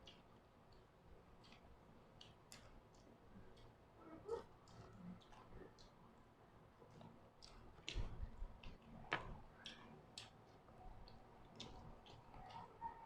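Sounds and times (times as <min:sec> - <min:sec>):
faint wet chewing: 0:00.0 - 0:13.0.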